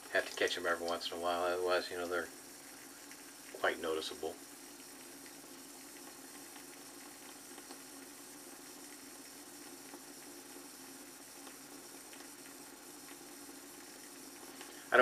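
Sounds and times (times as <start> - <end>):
background hiss: 0.0 - 15.0
faint hum: 0.0 - 15.0.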